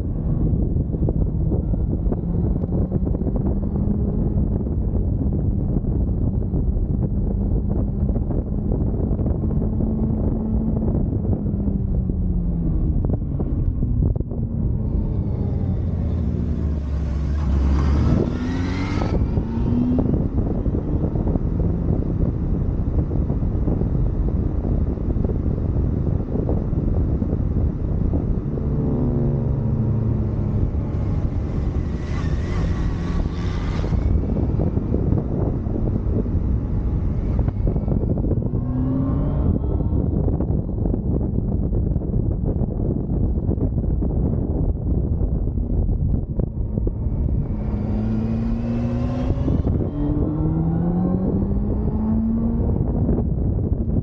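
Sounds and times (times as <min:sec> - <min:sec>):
motorcycle engine accelerating: 0:00.0 - 0:54.0
wind buffeting: 0:00.0 - 0:54.0.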